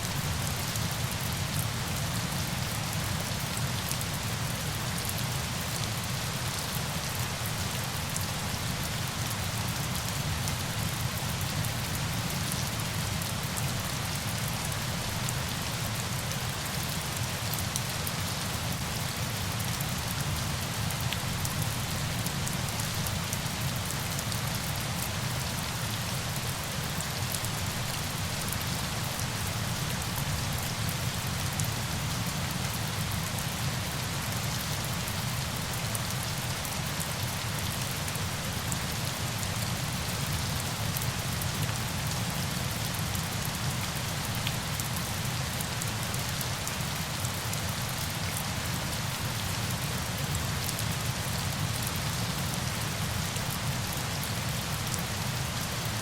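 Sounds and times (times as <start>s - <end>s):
rain falling on surfaces: 0.0s - 56.0s.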